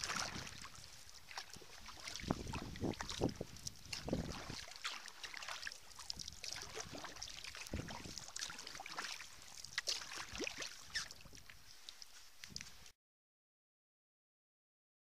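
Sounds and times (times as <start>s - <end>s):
paddle splashing in water: 0.0s - 12.9s
water dripping off paddle: 0.0s - 12.9s.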